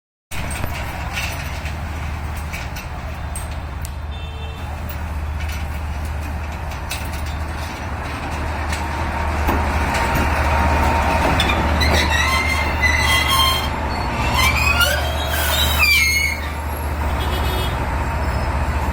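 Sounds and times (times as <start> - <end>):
locomotive diesel engine humming: 0.4 - 18.9
wheels squealing on rails: 0.4 - 18.9.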